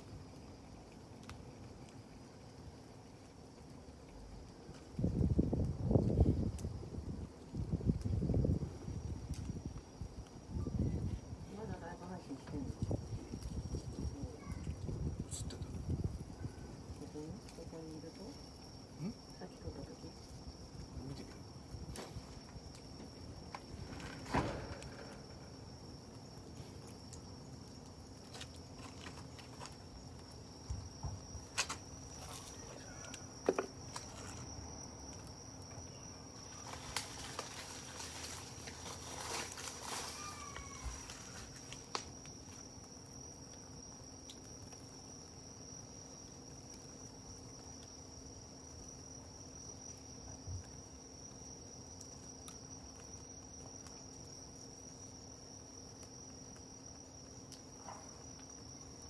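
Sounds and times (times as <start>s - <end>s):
campfire crackling and popping: 0.0s - 59.0s
insects trilling: 0.0s - 59.0s.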